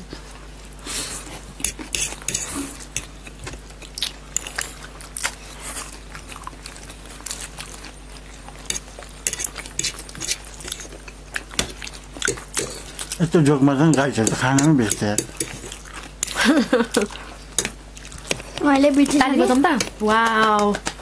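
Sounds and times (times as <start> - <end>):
slurping and chewing noodles: 0.8 - 18.7.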